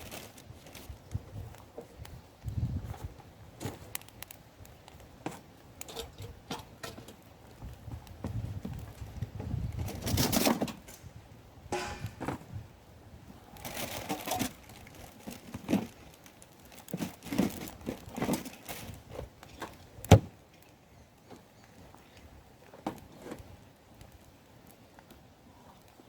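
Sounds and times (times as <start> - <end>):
rustling and crinkling: 0.0 - 11.1, 13.3 - 26.0.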